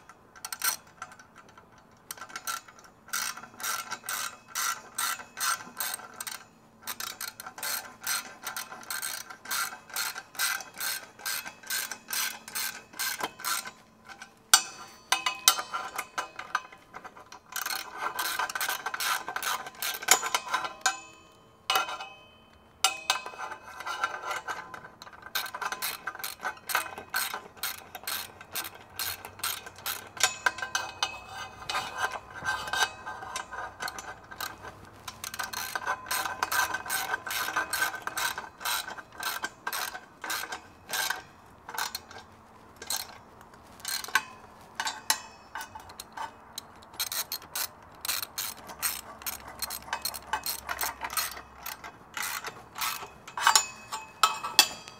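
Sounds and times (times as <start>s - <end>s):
ratchet wrench clicking: 0.4s - 16.6s, 17.5s - 21.0s, 25.3s - 42.2s, 42.8s - 43.2s, 43.8s - 44.2s, 44.8s - 54.9s.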